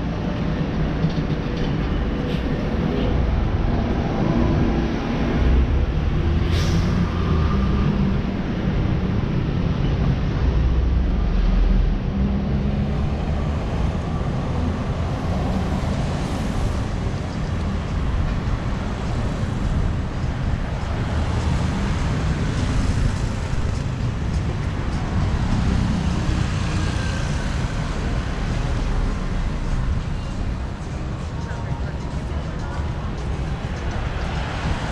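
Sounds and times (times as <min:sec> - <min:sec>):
car engines and tyres passing: 0:00.0 - 0:34.9.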